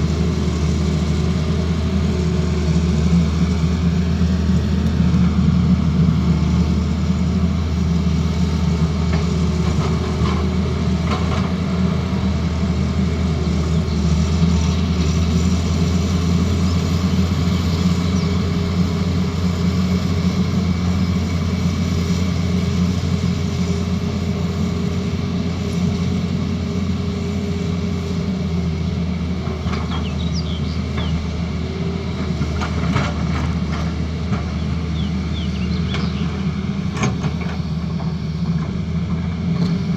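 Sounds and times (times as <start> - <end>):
diesel engine low rumble: 0.0 - 39.9.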